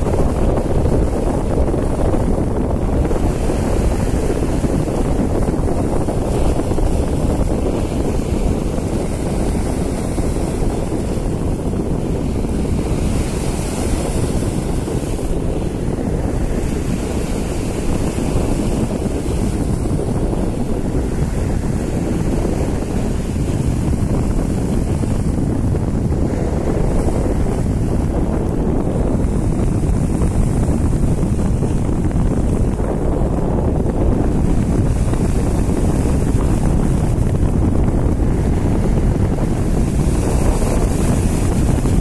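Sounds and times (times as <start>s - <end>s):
waves washing against rocks: 0.0s - 42.0s
wind buffeting microphone: 0.0s - 42.0s.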